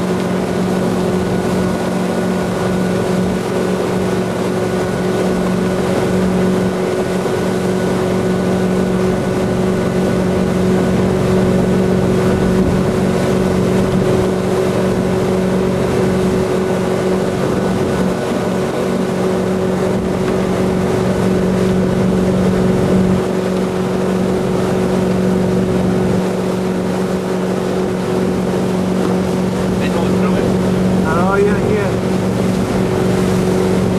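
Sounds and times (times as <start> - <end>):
boat engine humming: 0.0 - 33.9
water rushing in wake: 0.0 - 33.9.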